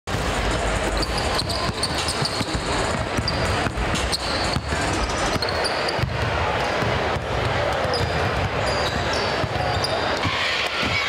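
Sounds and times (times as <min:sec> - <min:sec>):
crowd murmur: 0:00.1 - 0:11.0
basketballs bouncing on hardwood: 0:01.1 - 0:11.0.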